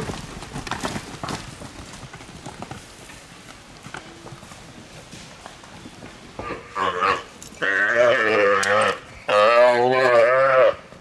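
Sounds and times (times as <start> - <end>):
hooves clopping on hard ground: 0.0 - 11.0.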